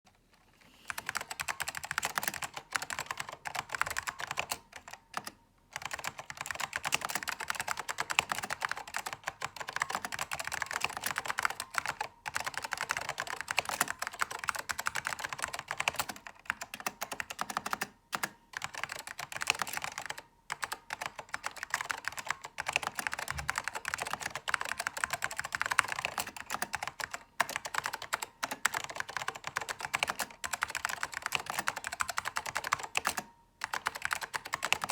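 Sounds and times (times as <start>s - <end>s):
fast mechanical keyboard typing: 0.9s - 34.9s.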